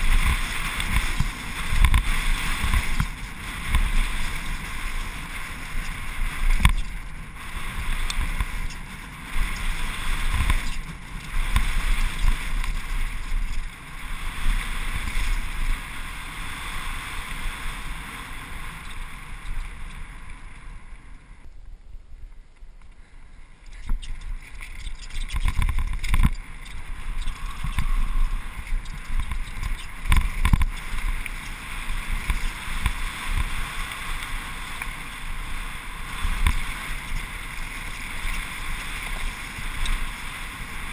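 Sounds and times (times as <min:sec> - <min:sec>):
wind buffeting microphone: 0:00.0 - 0:20.9, 0:23.8 - 0:40.9
bike tyres rumbling on dirt trail: 0:00.0 - 0:40.9.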